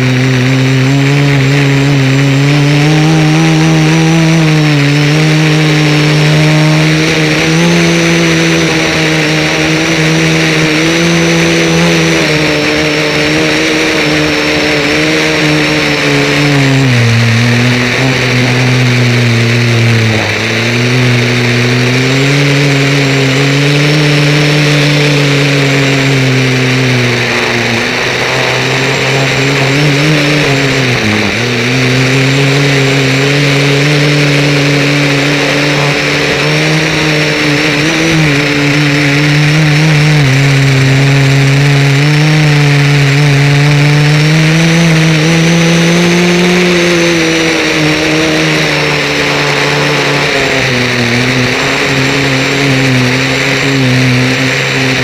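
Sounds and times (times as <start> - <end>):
model aircraft motor whine: 0.0 - 55.0.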